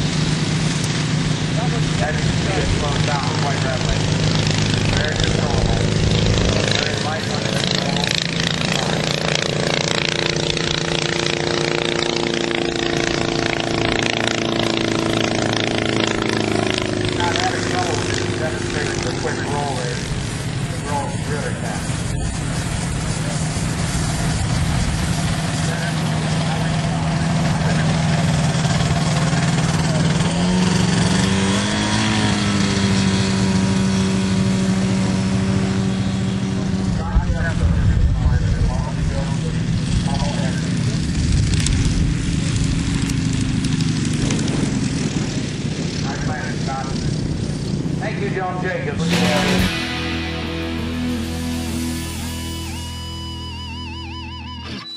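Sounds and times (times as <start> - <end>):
light aircraft engine droning overhead: 0.0 - 54.9.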